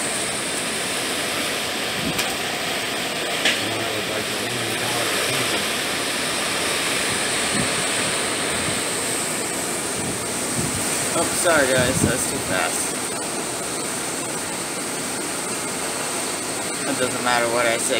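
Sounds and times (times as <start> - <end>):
strong wind and rain: 0.0 - 17.9.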